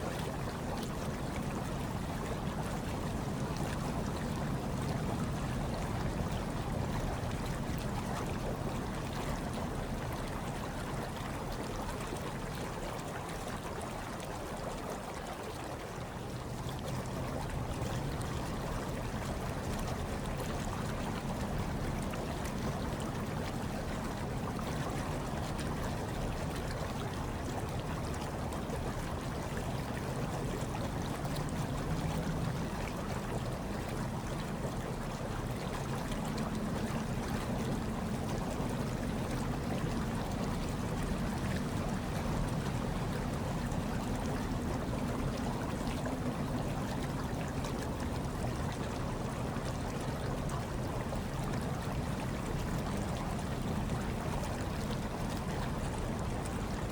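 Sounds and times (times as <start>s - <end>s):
hot tub water running: 0.0s - 56.9s.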